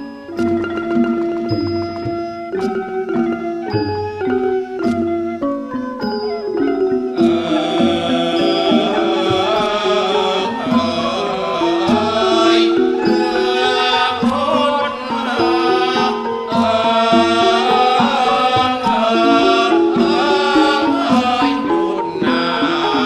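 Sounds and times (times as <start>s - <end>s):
mallet percussion and hand drums: 0.0s - 23.0s.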